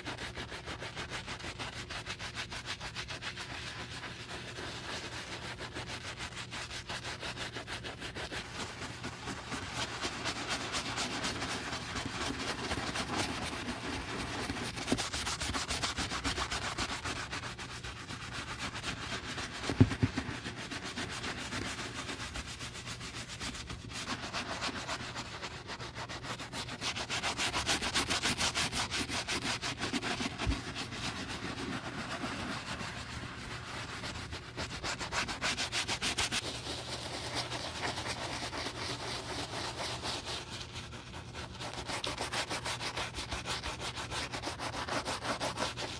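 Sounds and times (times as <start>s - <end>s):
fast rubbing strokes: 0.0s - 45.9s.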